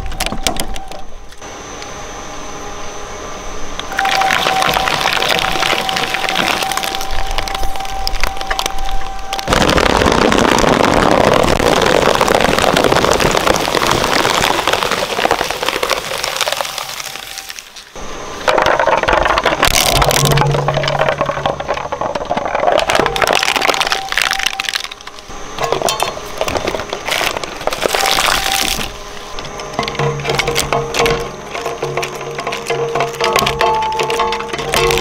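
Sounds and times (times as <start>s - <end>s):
thin steady whine: 0.0s - 35.0s
shredder crunching and tearing: 3.9s - 35.0s.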